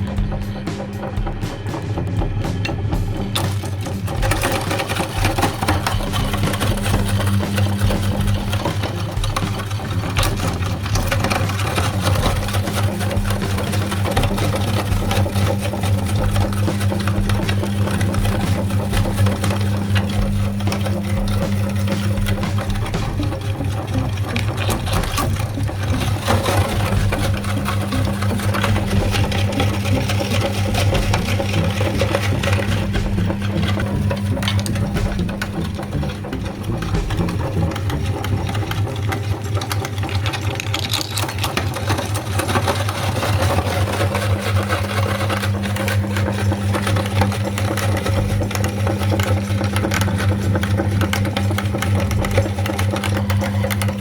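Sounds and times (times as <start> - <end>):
candy crunching in grinder: 0.0 - 54.0
meat grinder motor humming: 0.0 - 54.0.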